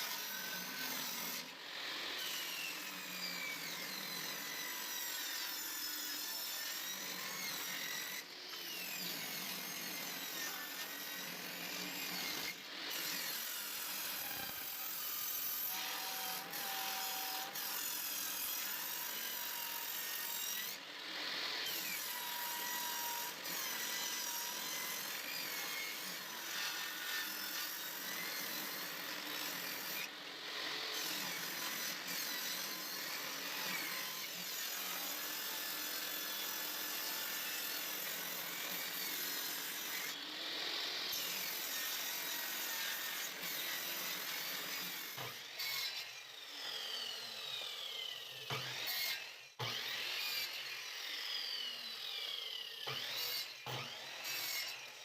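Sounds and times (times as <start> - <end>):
power tool sawing wood: 0.0 - 55.0.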